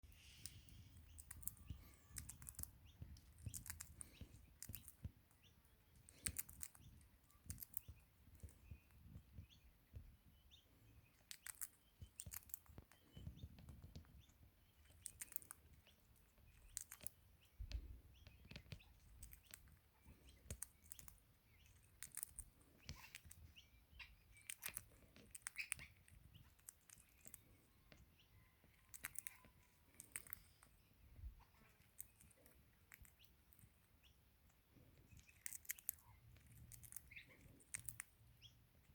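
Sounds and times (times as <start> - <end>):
bird chirping softly: 0.0 - 38.9
beak cracking seeds: 0.2 - 10.0, 11.0 - 30.8, 31.4 - 38.2.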